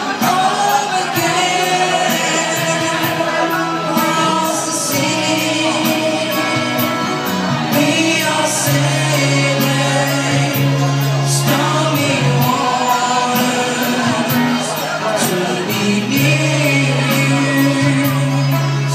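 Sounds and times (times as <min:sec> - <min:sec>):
band accompaniment: 0:00.0 - 0:18.9
singer holding long notes: 0:00.0 - 0:18.9.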